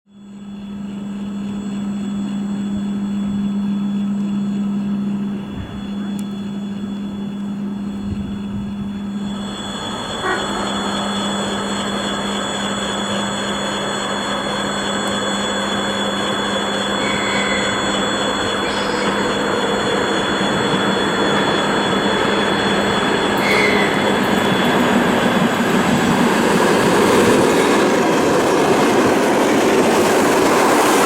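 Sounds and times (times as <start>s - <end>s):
electric train running: 0.2s - 31.0s
steady low hum: 0.2s - 31.0s.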